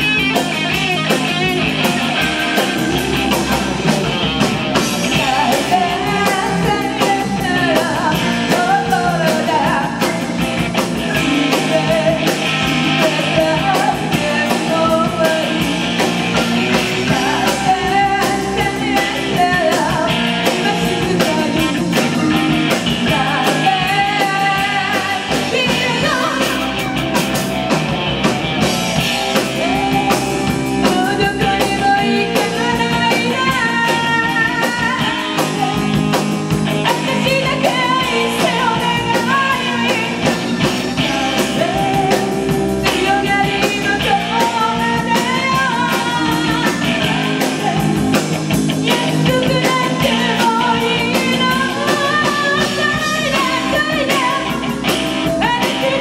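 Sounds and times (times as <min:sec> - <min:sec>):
rock band playing: 0:00.0 - 0:56.0
woman singing: 0:04.8 - 0:27.0, 0:29.0 - 0:56.0.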